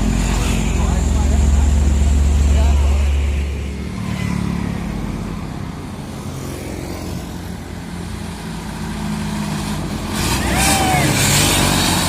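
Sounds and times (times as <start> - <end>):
truck diesel engine droning: 0.0 - 6.0, 7.6 - 12.0.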